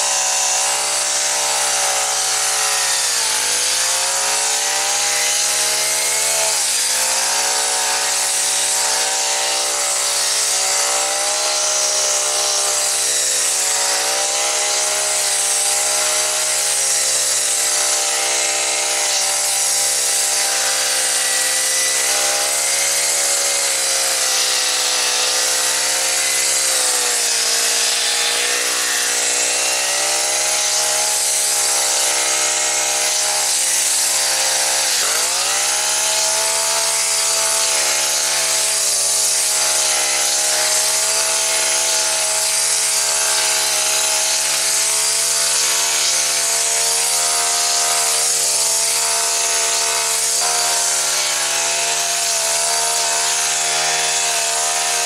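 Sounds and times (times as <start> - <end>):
hedge trimmer chattering: 0.0 - 55.0
small engine running at full throttle: 0.0 - 55.0.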